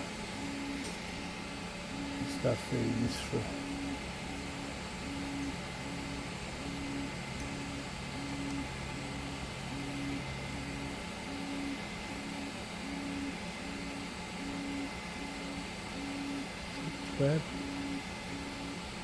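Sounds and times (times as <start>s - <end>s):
steady machine hum: 0.0s - 19.0s
stepper motors whining in pulses: 0.0s - 19.0s.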